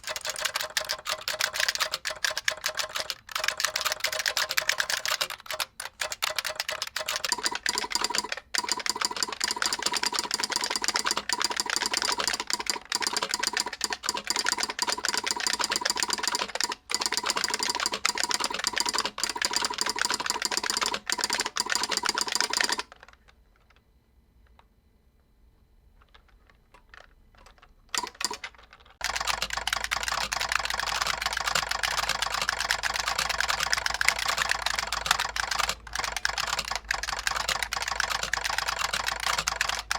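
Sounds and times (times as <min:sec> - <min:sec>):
rapid keyboard typing: 0:00.0 - 0:23.3, 0:26.1 - 0:39.9.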